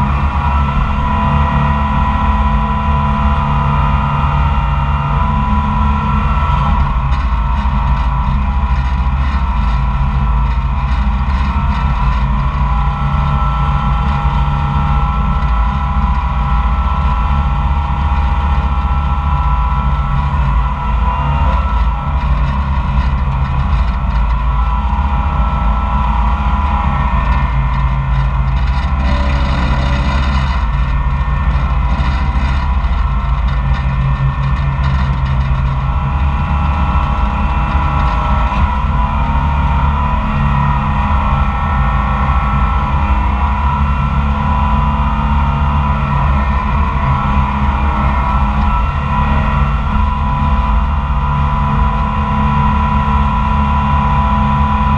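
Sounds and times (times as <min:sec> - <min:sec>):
dragline engine running: 0:00.0 - 0:54.9.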